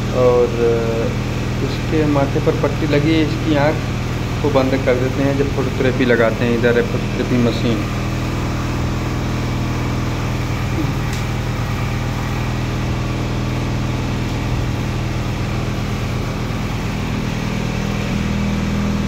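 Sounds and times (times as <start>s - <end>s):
equipment fans humming: 0.0s - 19.0s.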